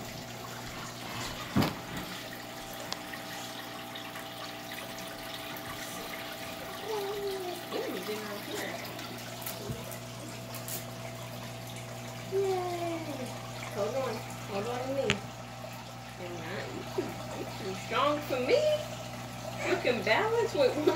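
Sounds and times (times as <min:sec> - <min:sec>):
aquarium filter water flowing: 0:00.0 - 0:20.9.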